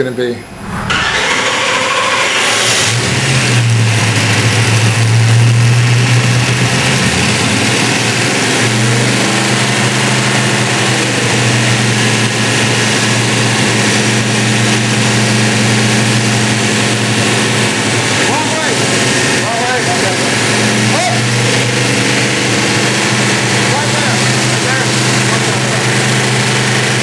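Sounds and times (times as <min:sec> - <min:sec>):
car engine running loudly: 0:00.0 - 0:27.0.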